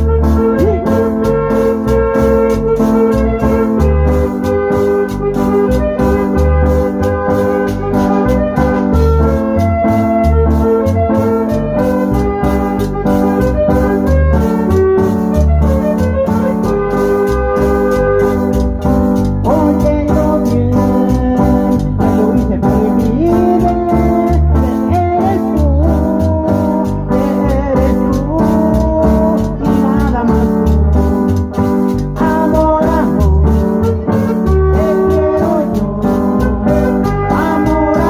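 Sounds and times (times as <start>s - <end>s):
man singing into a microphone: 0.0s - 18.4s, 19.4s - 38.0s
live band music: 0.0s - 38.0s
organ-like electronic keyboard: 0.0s - 38.0s.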